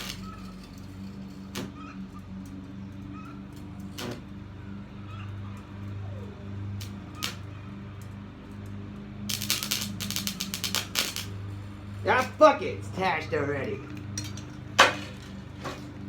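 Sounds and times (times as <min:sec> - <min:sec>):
welding arc crackling and sputtering: 0:00.0 - 0:04.5, 0:05.6 - 0:16.0
arc welder humming: 0:00.0 - 0:16.0.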